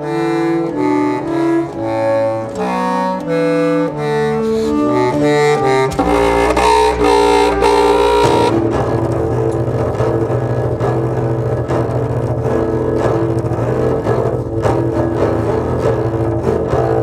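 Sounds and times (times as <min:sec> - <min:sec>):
clarinet and double bass playing: 0:00.0 - 0:17.0.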